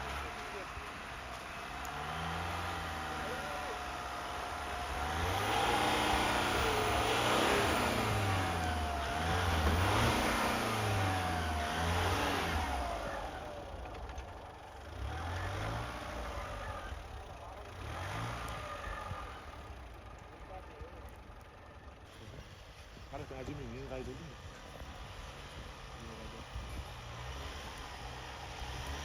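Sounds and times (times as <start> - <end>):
pickup engine revving: 0.0 - 29.0.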